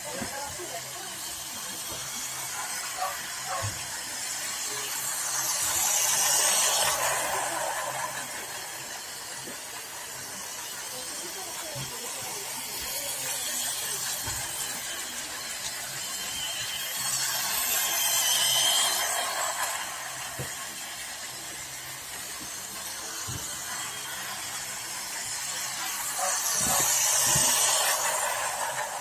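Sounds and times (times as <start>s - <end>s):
toy train motors whirring: 0.0s - 29.0s.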